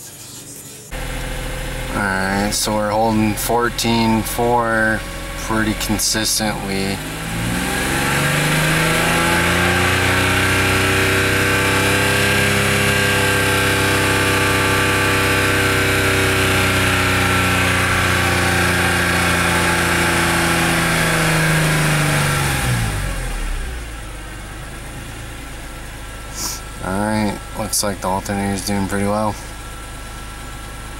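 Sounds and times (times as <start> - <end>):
car engine revving: 0.9 - 30.9.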